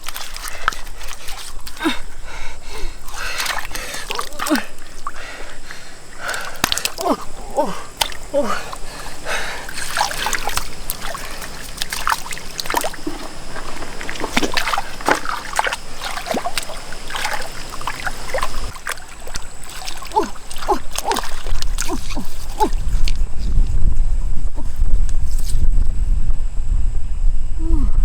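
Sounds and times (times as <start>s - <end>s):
water splashing and dripping: 0.0s - 23.3s.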